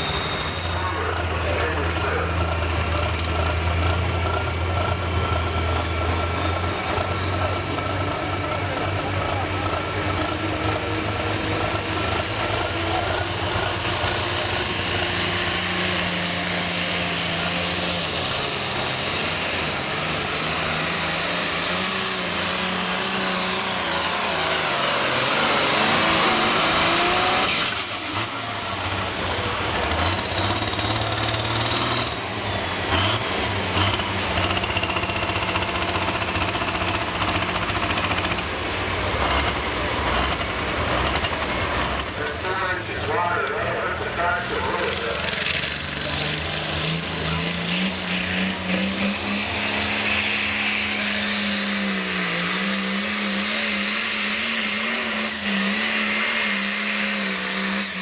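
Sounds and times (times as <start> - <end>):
diesel engine at full throttle: 0.0 - 58.0.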